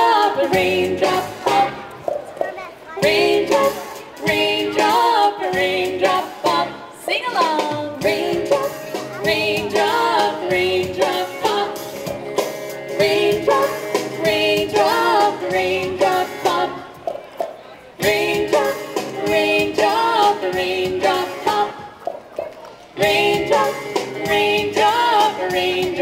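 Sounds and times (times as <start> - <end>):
women singing children's song: 0.0 - 2.2, 3.0 - 12.2, 12.9 - 17.2, 18.0 - 26.0
steady beat: 0.0 - 6.6, 7.3 - 22.3.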